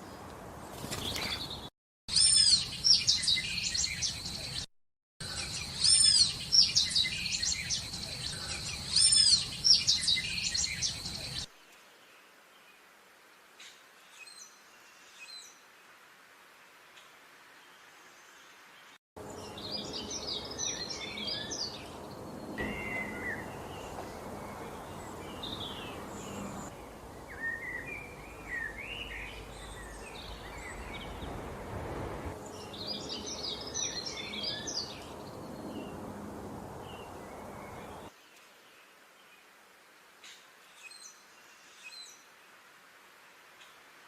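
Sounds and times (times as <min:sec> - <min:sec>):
songbirds twittering and chirping: 0:00.0 - 0:16.0, 0:16.8 - 0:44.0.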